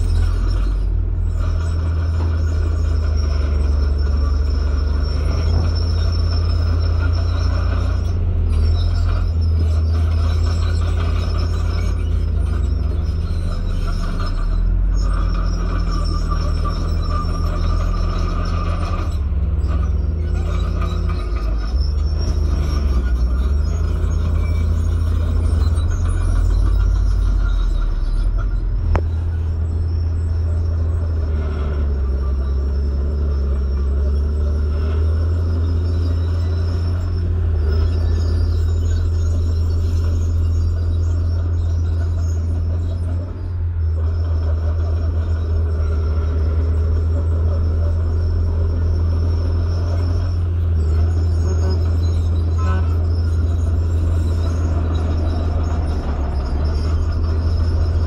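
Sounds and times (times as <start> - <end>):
heavy diesel engines rumbling: 0.0 - 58.0.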